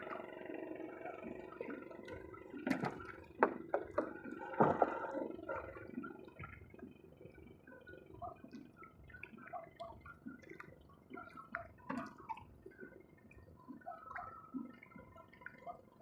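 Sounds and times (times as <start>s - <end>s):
water splashing and dripping: 1.1s - 16.0s.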